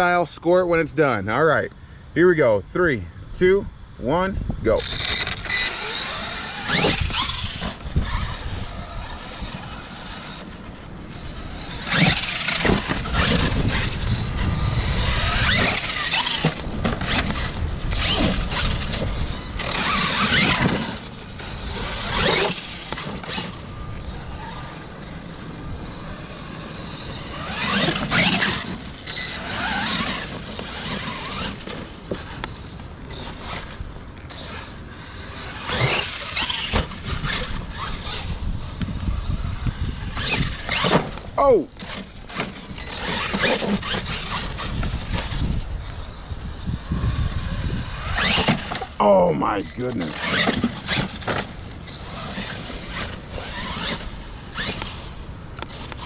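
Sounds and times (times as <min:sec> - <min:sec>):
toy truck motor whining: 0:04.7 - 0:56.0
tyres on dirt and leaves: 0:04.7 - 0:56.0.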